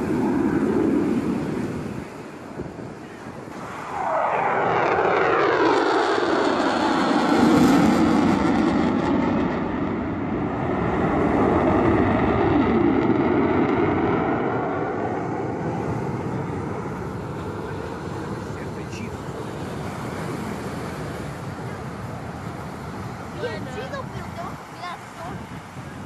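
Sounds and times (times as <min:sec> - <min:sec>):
fighter jet flying past: 0:00.0 - 0:26.0.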